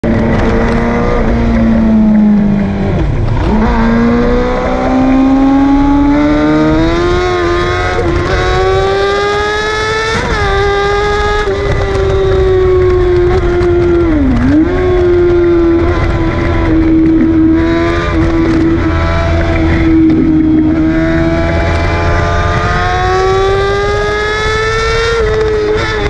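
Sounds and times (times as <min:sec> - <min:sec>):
motorcycle engine at high revs: 0:00.0 - 0:26.0
wind rush on microphone: 0:00.0 - 0:26.0.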